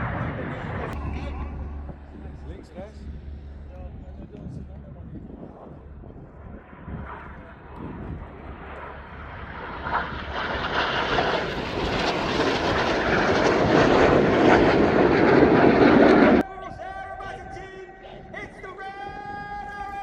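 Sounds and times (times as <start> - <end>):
jet engine roar: 0.0 - 18.6.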